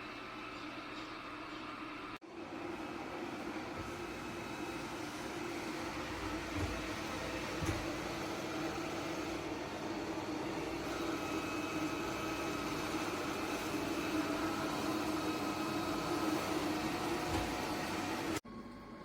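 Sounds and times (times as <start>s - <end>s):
robot vacuum running: 2.5s - 18.4s.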